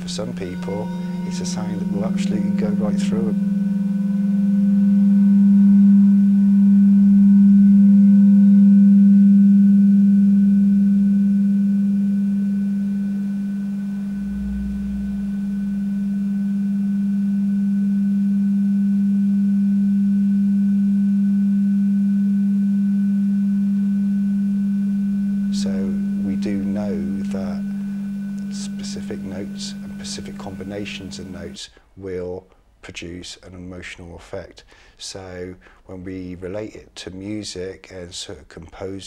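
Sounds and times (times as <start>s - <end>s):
singing bowl sustained tone: 0.0s - 31.6s.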